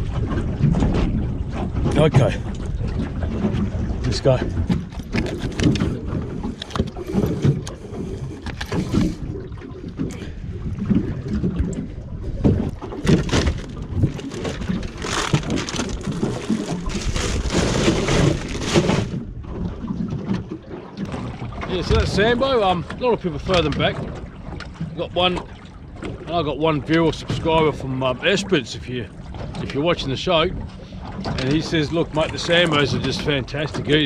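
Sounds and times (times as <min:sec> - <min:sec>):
wind buffeting microphone: 0:00.0 - 0:27.7.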